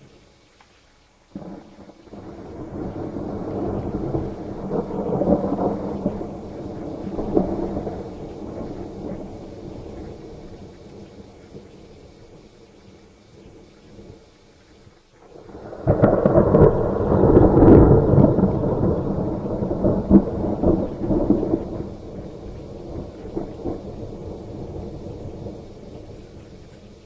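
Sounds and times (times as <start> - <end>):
thunder crack and rumble: 1.3 - 14.2, 15.2 - 27.0.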